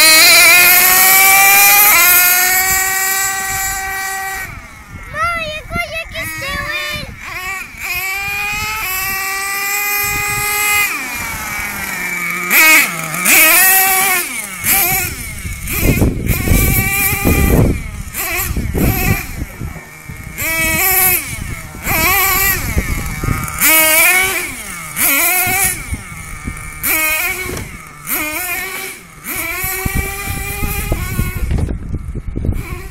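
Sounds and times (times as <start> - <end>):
model truck nitro engine revving: 0.0 - 5.4, 6.0 - 32.9.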